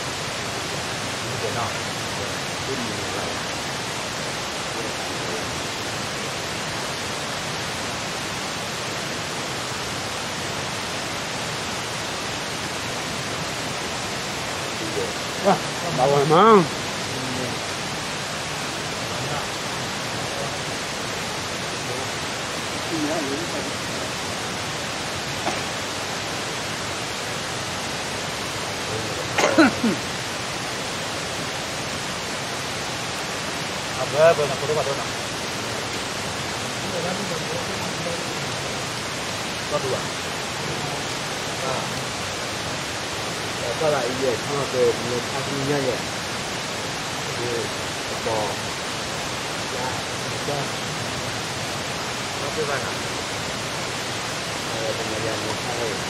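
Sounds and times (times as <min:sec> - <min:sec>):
steady rushing hiss: 0:00.0 - 0:56.0.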